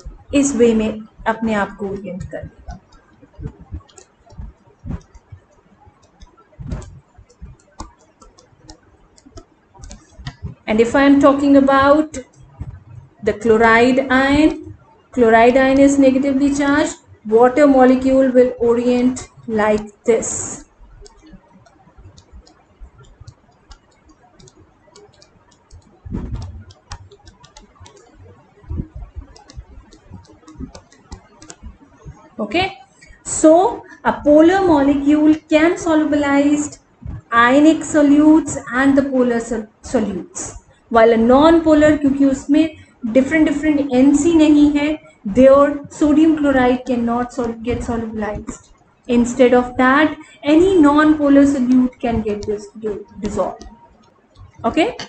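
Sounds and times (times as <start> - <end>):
stylus tapping on tablet screen: 0.0 - 55.0.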